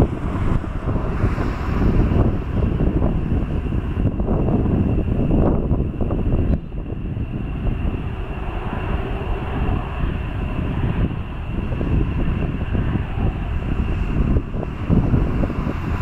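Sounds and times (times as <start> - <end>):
jet engine rumble with high whine: 0.0 - 16.0.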